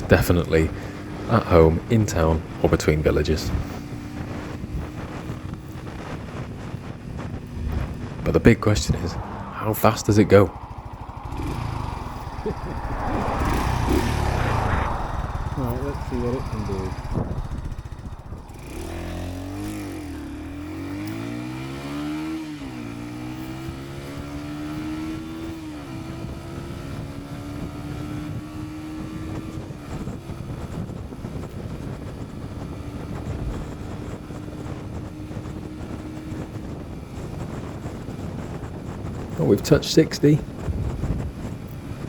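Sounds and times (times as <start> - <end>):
motorcycle engine accelerating: 0.0 - 39.7, 40.4 - 42.0
wind noise: 0.0 - 42.0.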